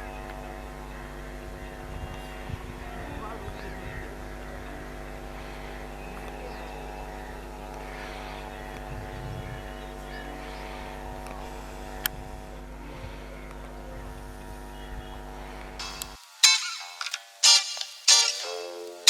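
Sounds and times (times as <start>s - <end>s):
faint voices: 0.0s - 15.8s
electric train humming: 0.0s - 19.0s.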